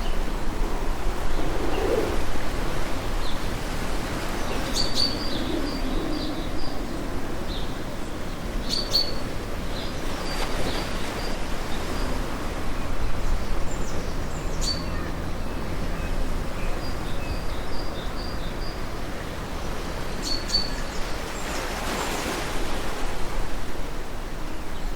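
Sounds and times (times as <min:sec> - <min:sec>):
ocean surf: 0:00.0 - 0:18.2, 0:18.8 - 0:24.9.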